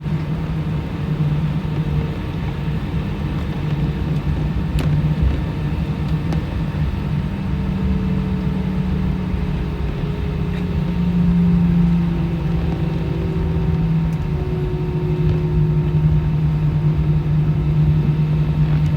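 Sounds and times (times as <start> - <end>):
airliner engines droning: 0.0 - 18.9.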